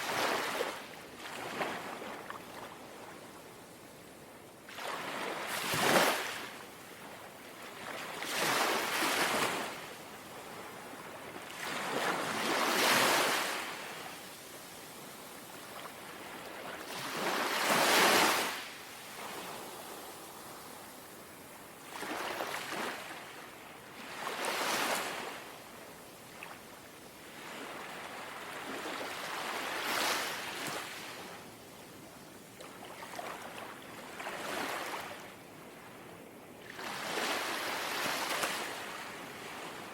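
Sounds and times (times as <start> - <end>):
gentle sea waves lapping: 0.0 - 3.6, 4.2 - 39.9.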